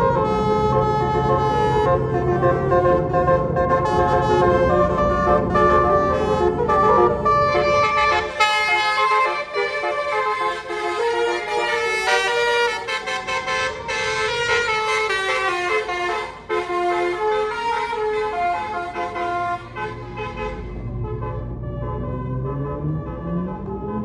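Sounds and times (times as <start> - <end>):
bus engine: 0.0 - 24.0
musical bus horn playing a tune: 0.0 - 24.0.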